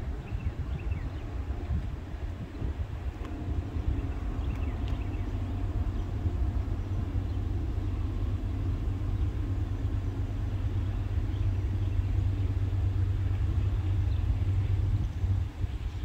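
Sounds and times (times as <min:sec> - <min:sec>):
distant diesel locomotive rumble: 0:00.0 - 0:16.0.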